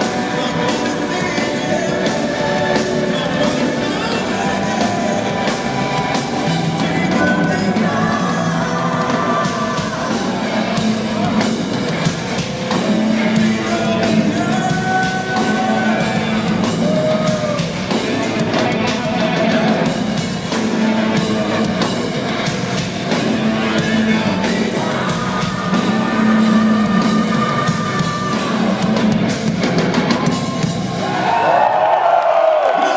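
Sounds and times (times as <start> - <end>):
man singing long notes: 0.0 - 11.4, 12.7 - 22.0, 23.1 - 28.9
keyboards: 0.0 - 32.0
electric guitars: 0.0 - 32.3
crowd: 0.0 - 32.9
drums: 0.0 - 32.9.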